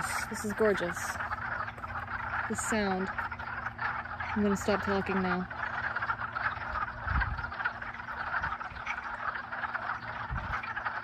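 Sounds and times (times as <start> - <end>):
frog chorus trilling: 0.0 - 11.0.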